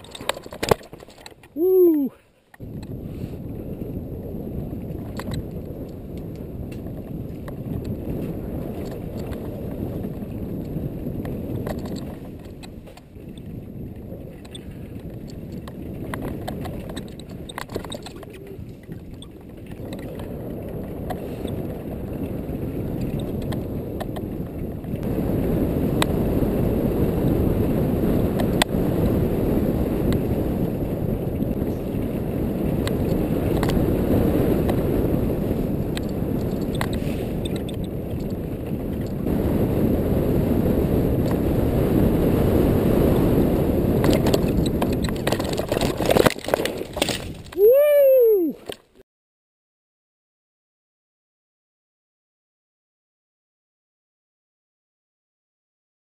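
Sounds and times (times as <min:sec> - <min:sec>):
bike rattling over bumps: 0:00.0 - 0:01.6, 0:02.6 - 0:47.6
rumble of tyres over dirt: 0:00.0 - 0:49.0
wind buffeting microphone: 0:01.5 - 0:48.7.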